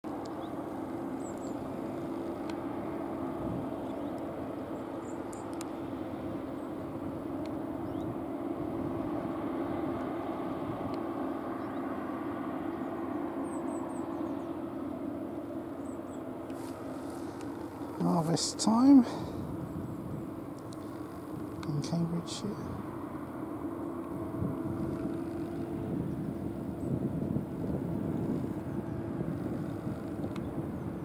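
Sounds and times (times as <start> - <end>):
combine harvester droning: 0.0 - 31.0.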